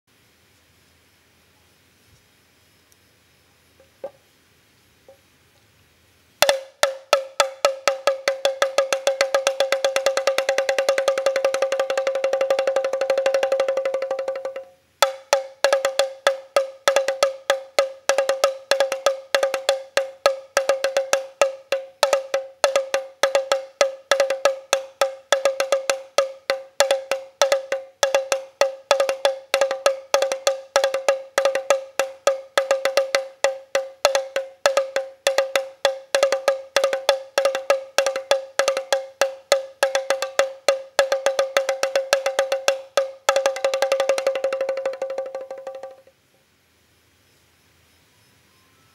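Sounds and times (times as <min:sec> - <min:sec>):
wooden percussion fast roll: 0:06.4 - 0:46.1.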